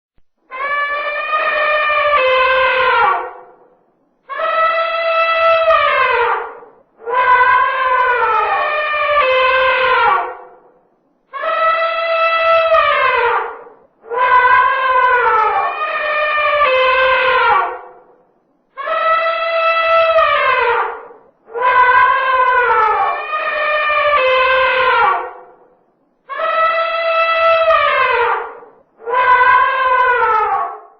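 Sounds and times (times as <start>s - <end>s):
elephant trumpeting: 0.5s - 3.6s, 4.3s - 10.6s, 11.3s - 18.0s, 18.8s - 25.7s, 26.3s - 30.9s.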